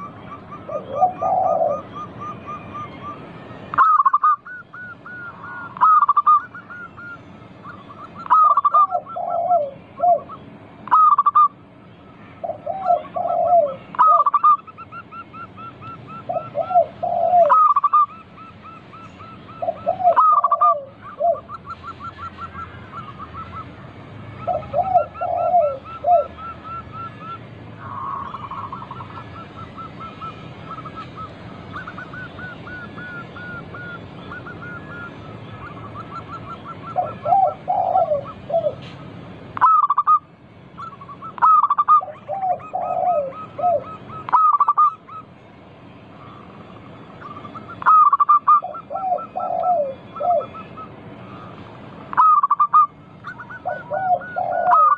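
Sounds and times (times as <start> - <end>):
doves cooing: 0.0 - 11.6, 12.3 - 45.4, 46.1 - 54.9
birds chirping: 0.0 - 54.9
sharp bird calls: 0.0 - 54.9.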